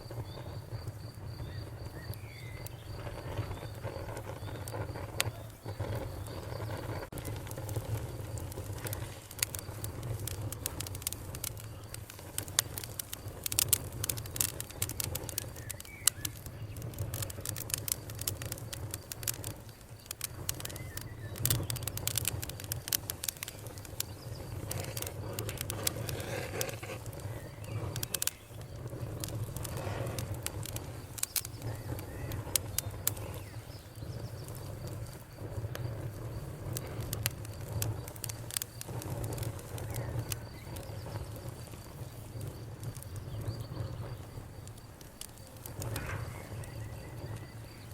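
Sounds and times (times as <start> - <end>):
low rumble of burning logs: 0.0 - 47.9
wood fire pops and snaps: 0.0 - 47.9.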